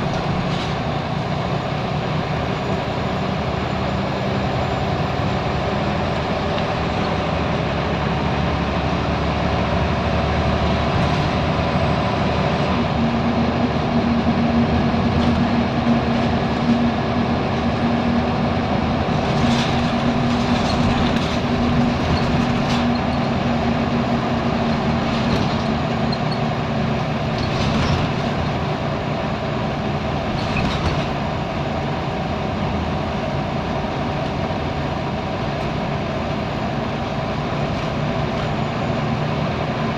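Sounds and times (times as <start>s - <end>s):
bus body rattling: 0.0s - 39.9s
bus diesel engine droning: 0.0s - 39.9s.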